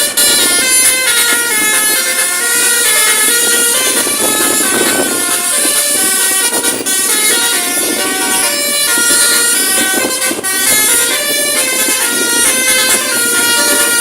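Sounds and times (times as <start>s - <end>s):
bus horn playing a tune: 0.0s - 14.0s
vehicle noise: 0.0s - 14.0s.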